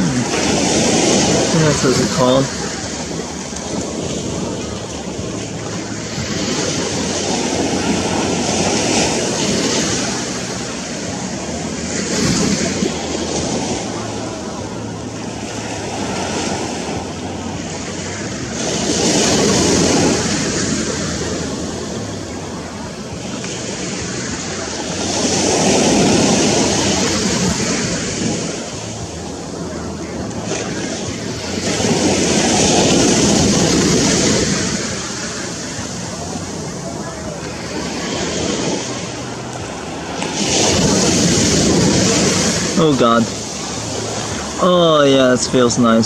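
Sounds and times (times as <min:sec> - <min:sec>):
surf breaking on beach: 0:00.0 - 0:46.0.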